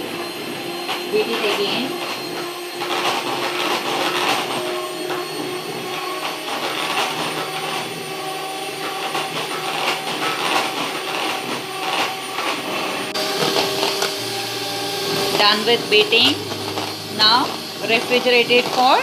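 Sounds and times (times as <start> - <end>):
electric hand mixer whipping: 0.0 - 19.0.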